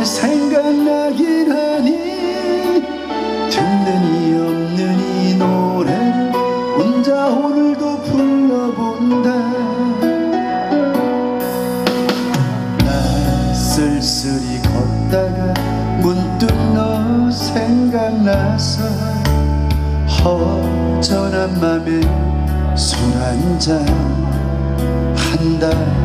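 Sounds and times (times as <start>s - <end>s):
man singing a slow ballad: 0.0s - 11.2s, 12.3s - 26.0s
recorded backing track with bass: 0.0s - 26.0s.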